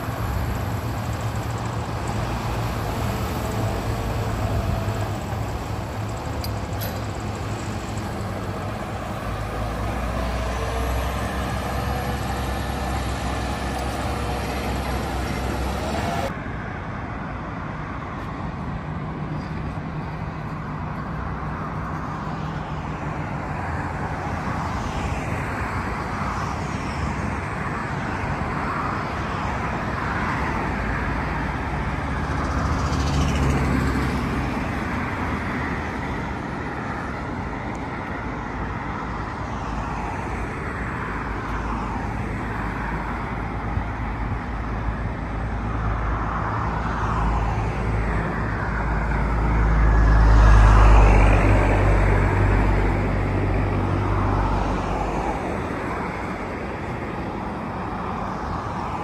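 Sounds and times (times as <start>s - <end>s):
vehicle engine and road traffic: 0.0s - 59.0s.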